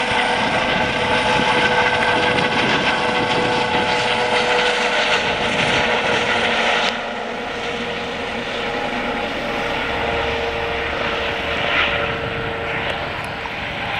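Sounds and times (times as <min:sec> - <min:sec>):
helicopter flying: 0:00.0 - 0:13.9.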